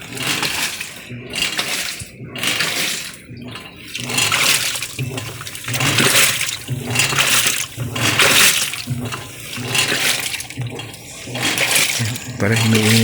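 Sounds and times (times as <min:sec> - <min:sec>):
low motor hum: 0:00.0 - 0:13.0
washing machine water sloshing: 0:00.0 - 0:13.0.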